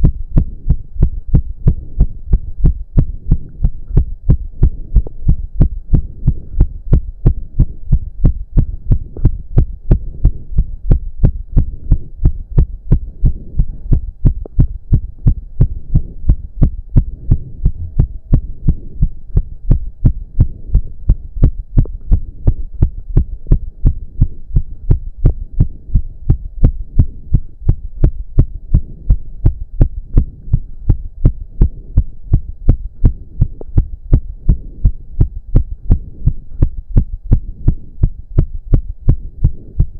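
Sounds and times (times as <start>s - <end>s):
heart beating fast: 0.0s - 39.9s.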